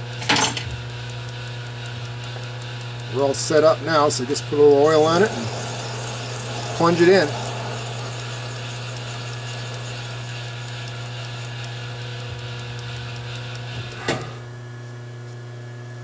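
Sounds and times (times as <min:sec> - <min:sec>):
lathe motor hum: 0:00.9 - 0:14.6.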